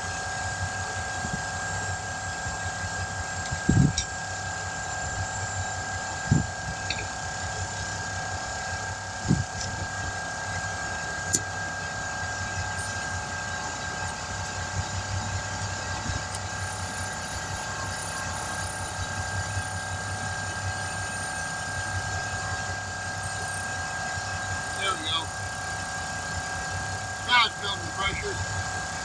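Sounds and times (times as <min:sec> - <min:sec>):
air compressor running: 0:00.0 - 0:29.0.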